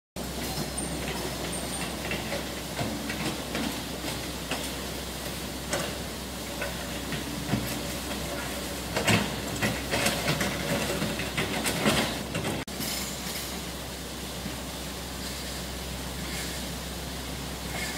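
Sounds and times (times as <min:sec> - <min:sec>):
excavator engine with hiss: 0:00.2 - 0:17.9.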